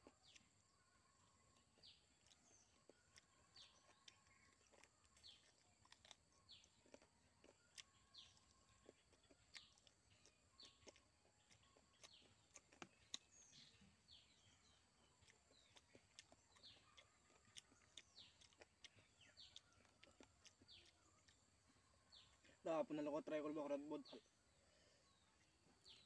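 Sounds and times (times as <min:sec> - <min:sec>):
chewing and lip-smacking: 0:00.0 - 0:22.5
faint small birds chirping: 0:00.0 - 0:26.0.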